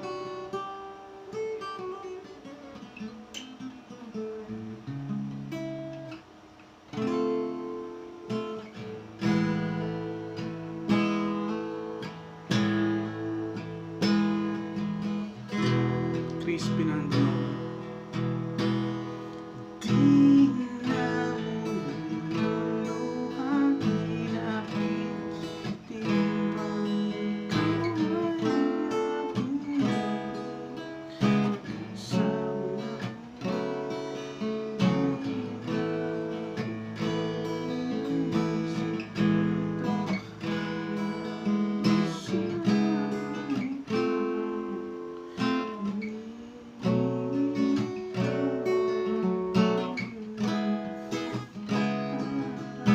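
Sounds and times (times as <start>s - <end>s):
acoustic guitar strummed and picked: 0.0s - 52.9s.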